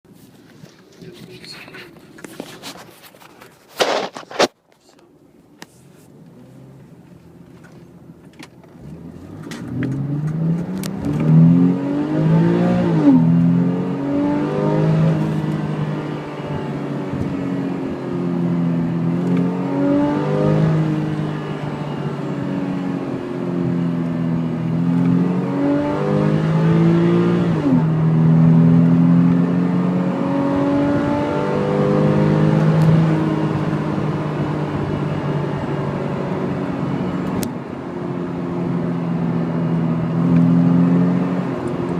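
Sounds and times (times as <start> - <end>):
car engine revving: 6.2 - 41.9.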